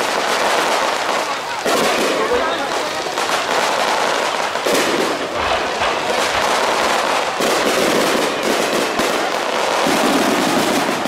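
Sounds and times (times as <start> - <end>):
firework bangs: 0.0 - 11.0
firework crackle: 0.0 - 11.0.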